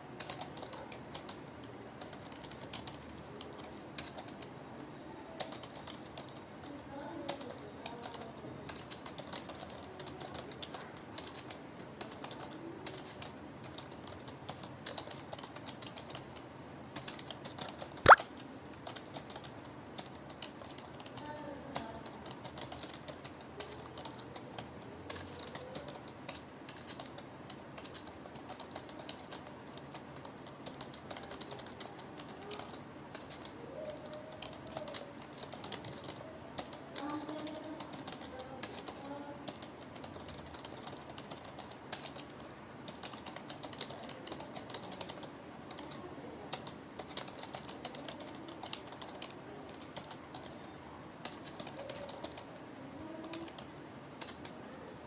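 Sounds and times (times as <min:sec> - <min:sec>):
keyboard typing clicks: 0:00.2 - 0:01.4, 0:02.0 - 0:04.4, 0:05.4 - 0:16.2, 0:17.0 - 0:27.2, 0:27.8 - 0:50.6, 0:51.2 - 0:52.5, 0:53.2 - 0:54.6.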